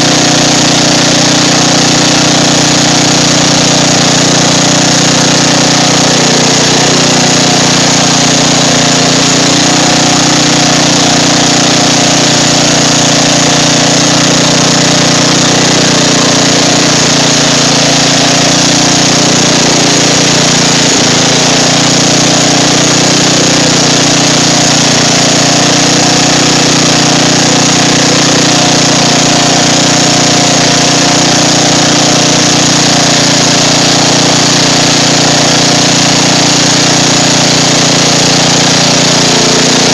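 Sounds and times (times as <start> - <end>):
riding lawn mower engine: 0.0 - 39.9
water splashing: 0.0 - 39.9.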